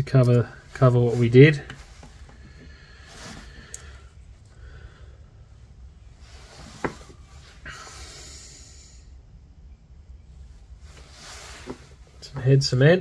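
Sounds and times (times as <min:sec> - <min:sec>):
faint thread handling sounds: 0:00.0 - 0:07.7, 0:10.2 - 0:13.0.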